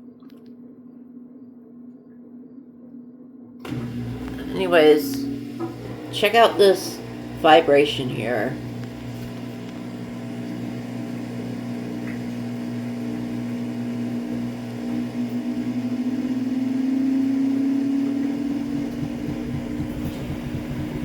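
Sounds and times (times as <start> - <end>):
washing machine drum spinning: 3.6 - 21.0.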